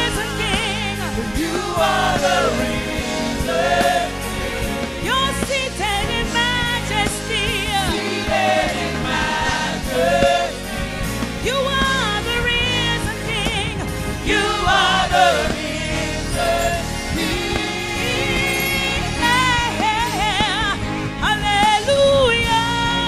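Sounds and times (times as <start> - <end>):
gospel choir singing: 0.0 - 23.0.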